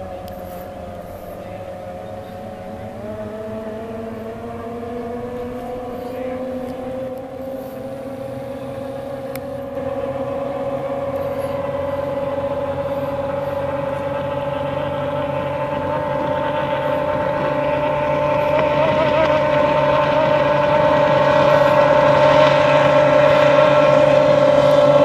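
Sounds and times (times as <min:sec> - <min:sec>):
outboard engines whining: 0:00.0 - 0:25.0.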